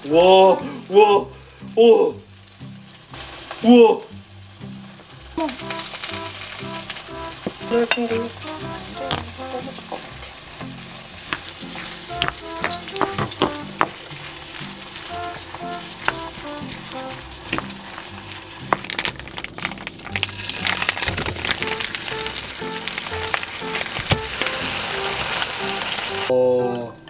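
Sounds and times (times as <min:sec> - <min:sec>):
patty sizzling in frying pan: 0:00.0 - 0:26.3
wet hissy mixing: 0:00.0 - 0:26.3
background music: 0:00.0 - 0:27.0.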